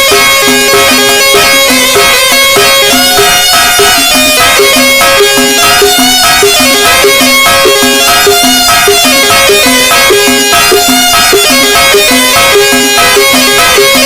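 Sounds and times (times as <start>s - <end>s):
electronic keyboard instrumental music: 0.0s - 14.0s.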